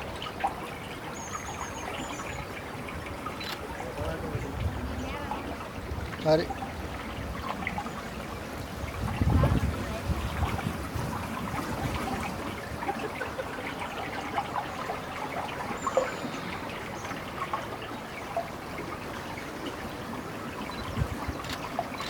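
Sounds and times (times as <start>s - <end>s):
water trickling and splashing: 0.0s - 22.0s.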